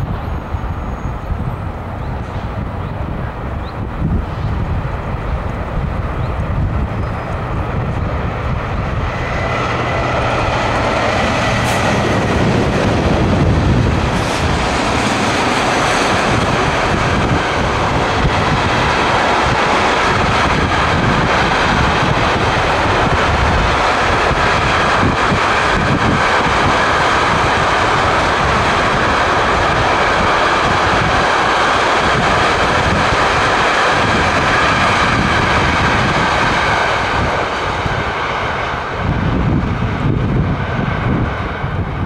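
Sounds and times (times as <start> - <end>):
train wheels on rails: 0.0 - 42.0
wind buffeting microphone: 0.0 - 42.0.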